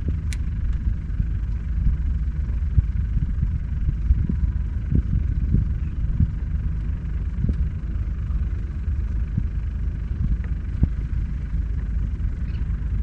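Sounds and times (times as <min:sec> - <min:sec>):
short low thumps: 0:00.0 - 0:13.0
wind buffeting microphone: 0:00.0 - 0:13.0.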